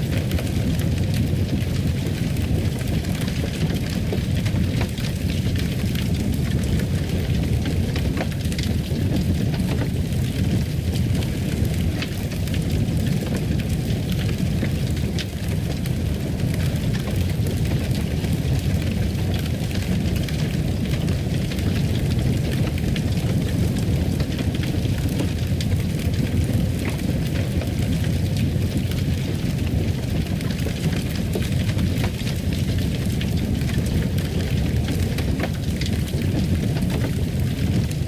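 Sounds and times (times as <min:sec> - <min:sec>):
fire crackling and popping: 0:00.0 - 0:38.0
fire rushing: 0:00.0 - 0:38.0.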